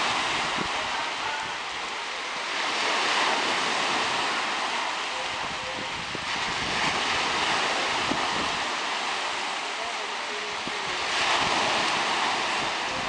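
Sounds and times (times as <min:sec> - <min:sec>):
surf washing onto shore: 0:00.0 - 0:13.0.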